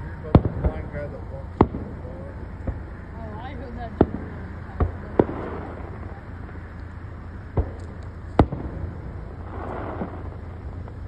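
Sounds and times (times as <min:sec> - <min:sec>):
fireworks bangs: 0:00.0 - 0:11.0
low steady hum: 0:00.0 - 0:11.0.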